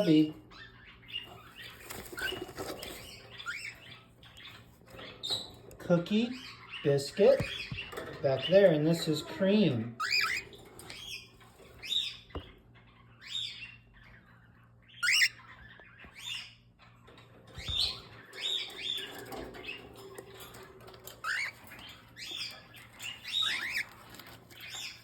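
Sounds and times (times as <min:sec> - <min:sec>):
cockatiels chirping: 0:00.0 - 0:16.9, 0:17.5 - 0:25.0.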